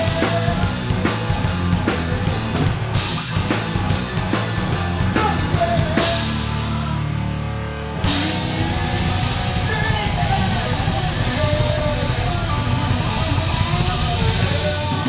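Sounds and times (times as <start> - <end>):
rock band playing loudly: 0.0 - 15.0.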